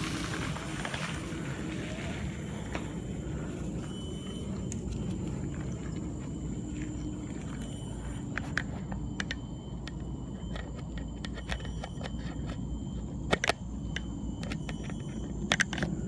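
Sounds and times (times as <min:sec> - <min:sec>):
tyres and wind rumbling: 0:00.0 - 0:16.0.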